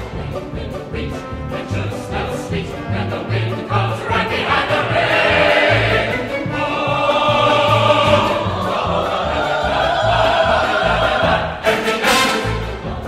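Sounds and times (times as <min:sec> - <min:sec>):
choir singing held notes: 0:00.0 - 0:13.0
orchestra with pulsing bass: 0:00.0 - 0:13.0.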